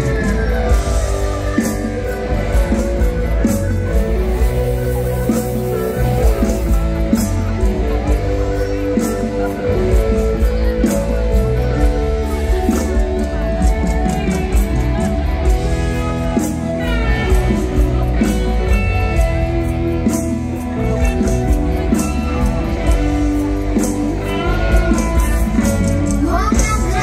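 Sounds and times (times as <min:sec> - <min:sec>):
bass: 0:00.0 - 0:27.0
plucked guitar: 0:00.0 - 0:27.0
steady drum beat: 0:00.0 - 0:27.0.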